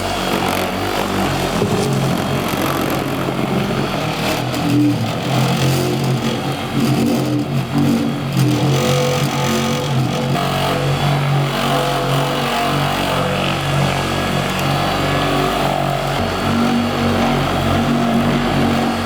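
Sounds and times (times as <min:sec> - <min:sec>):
power buffer motor running: 0:00.0 - 0:19.0.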